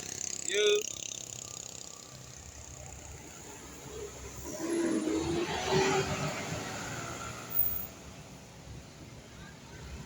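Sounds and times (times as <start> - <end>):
road vehicle passing: 0.0 - 8.0.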